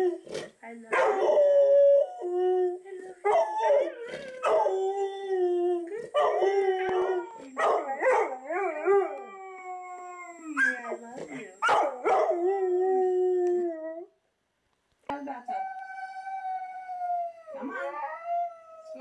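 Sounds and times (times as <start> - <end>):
dog howling: 1.0 - 14.1, 15.5 - 19.0.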